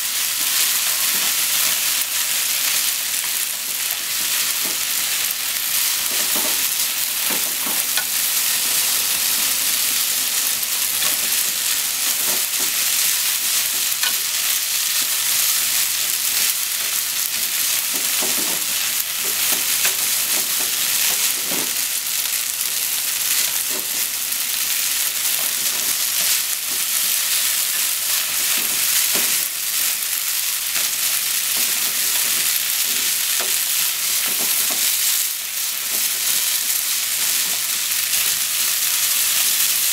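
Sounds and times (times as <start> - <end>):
noodles sizzling in a frying pan: 0.0 - 39.9.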